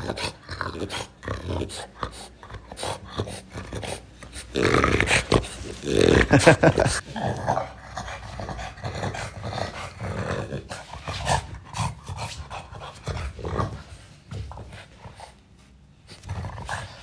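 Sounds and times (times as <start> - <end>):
dog grunting and snorting: 0.0 - 14.2.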